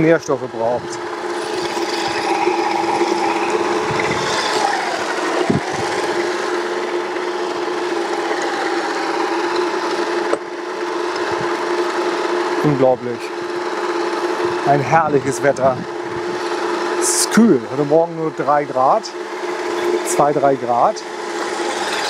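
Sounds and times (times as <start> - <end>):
reel mower whirring hum: 0.0 - 22.0.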